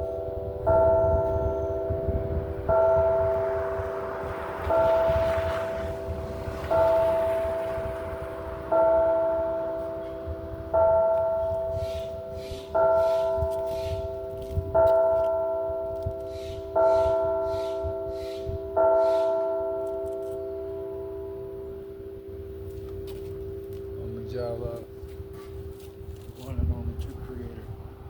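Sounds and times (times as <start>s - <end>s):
church bell ringing: 0.0s - 27.8s.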